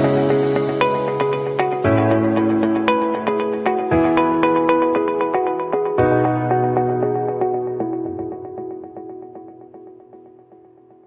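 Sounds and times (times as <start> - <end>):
gentle new-age instrumental music: 0.0 - 11.0.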